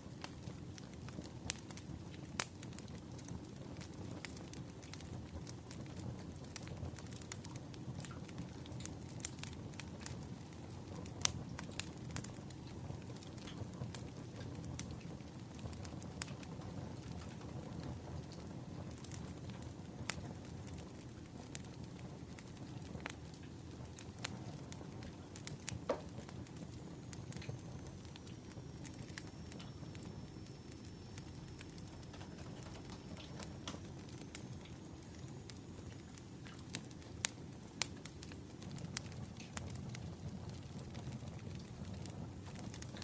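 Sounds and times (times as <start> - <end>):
wood fire crackling: 0.0 - 43.0
fire pops: 0.1 - 43.0.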